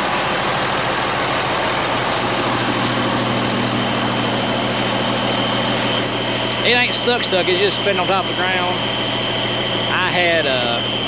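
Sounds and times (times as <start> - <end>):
thin high whine: 0.0 - 11.0
truck diesel engine running hard: 0.0 - 11.0.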